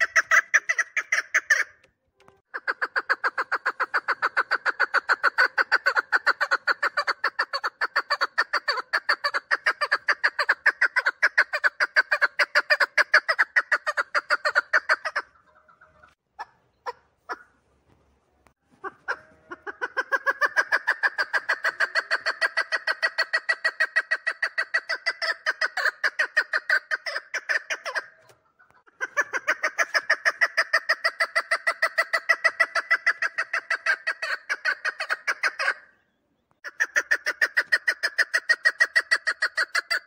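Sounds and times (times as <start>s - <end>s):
partridge clucking calls: 0.0s - 1.9s, 2.5s - 17.6s, 18.6s - 40.0s.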